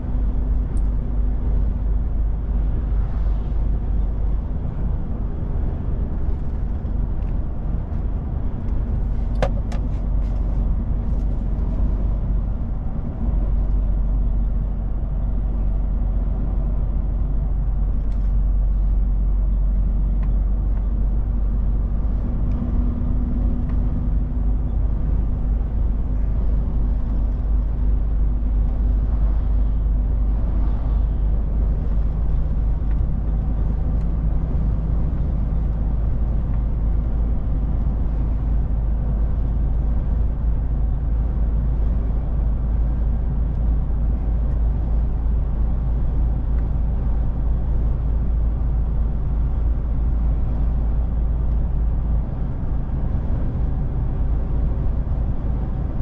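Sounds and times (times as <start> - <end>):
truck engine and tyre drone: 0.0 - 56.0.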